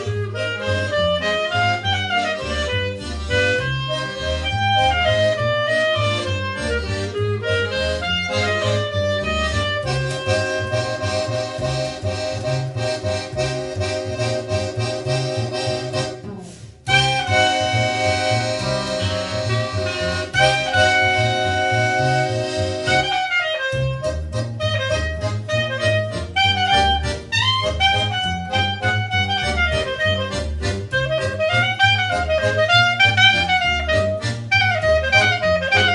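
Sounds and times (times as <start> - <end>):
accordion chords: 0.0 - 35.9
guitar: 0.0 - 35.9
pulsing bass line: 0.0 - 35.9.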